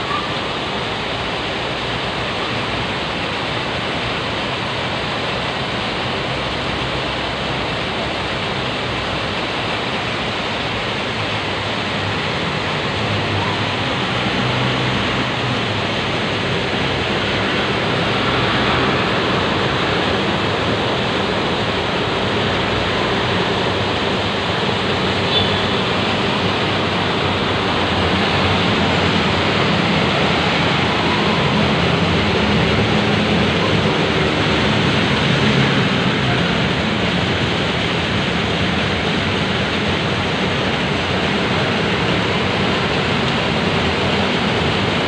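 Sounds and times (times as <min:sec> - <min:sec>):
heavy rain downpour: 0:00.0 - 0:45.0
running water: 0:00.0 - 0:45.0.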